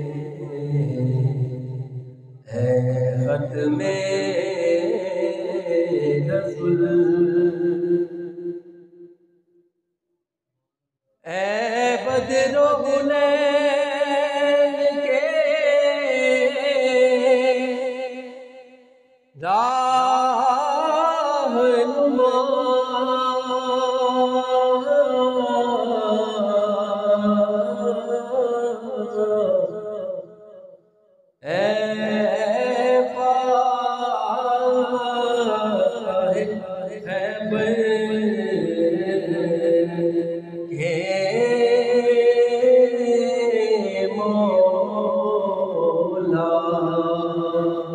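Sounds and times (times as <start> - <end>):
man singing unaccompanied: 0.0 - 1.8, 2.4 - 8.6, 11.2 - 18.4, 19.4 - 30.3, 31.4 - 47.9.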